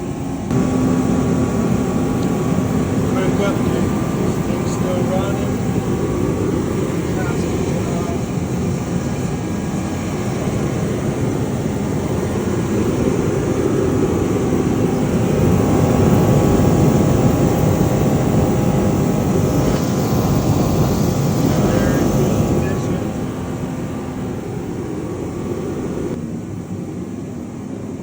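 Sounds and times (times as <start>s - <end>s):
heater fan and burner rushing: 0.0s - 28.0s.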